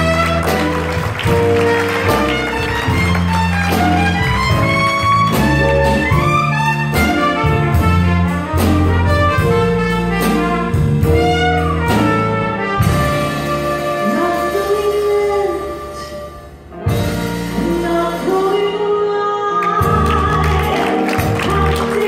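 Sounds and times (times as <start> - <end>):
instrumental band music: 0.0 - 22.0.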